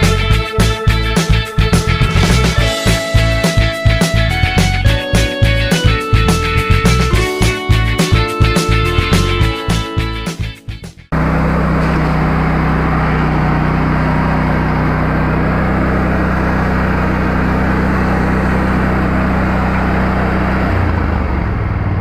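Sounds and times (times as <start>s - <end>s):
engine running steadily: 0.0s - 9.6s, 11.1s - 22.0s.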